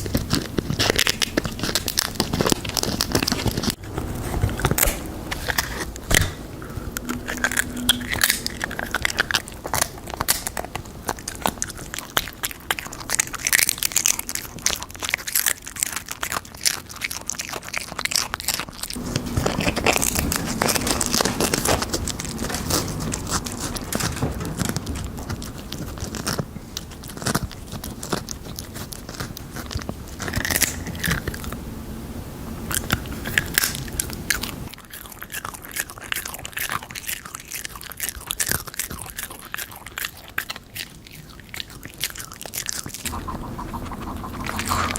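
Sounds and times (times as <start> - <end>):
pet crunching chips: 0.0 - 31.6, 32.6 - 44.9.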